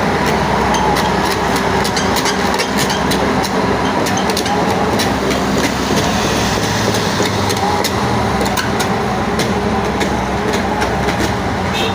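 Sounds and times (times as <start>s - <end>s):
diesel engine running under load: 0.0s - 11.9s
metallic clanks from crawler tracks: 0.2s - 11.4s.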